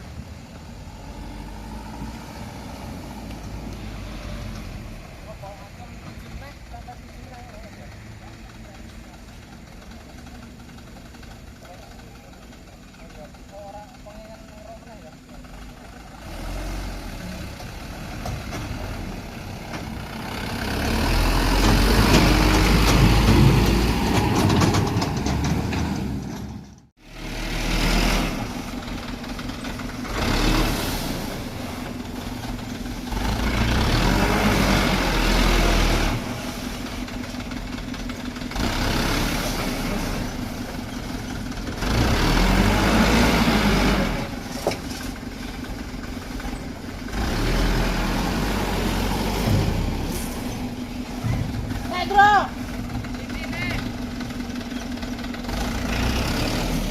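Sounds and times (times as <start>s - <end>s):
truck engine running under load: 0.0s - 56.9s.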